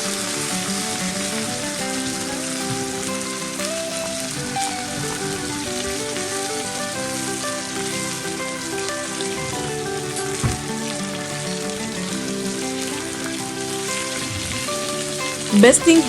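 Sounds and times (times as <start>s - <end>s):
background music: 0.0s - 16.0s
steak sizzling in a pan: 0.0s - 16.0s.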